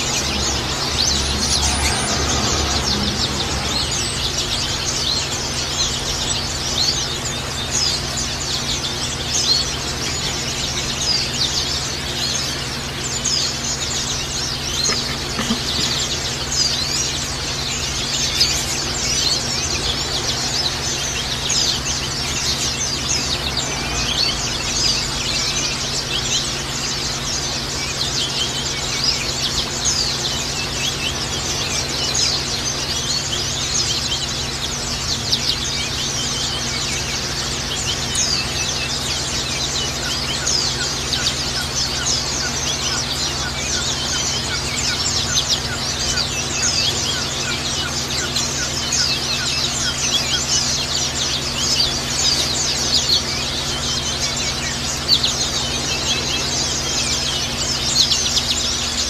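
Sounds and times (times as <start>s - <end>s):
small birds chirping and twittering: 0.0s - 59.0s
steady low hum: 0.0s - 59.0s.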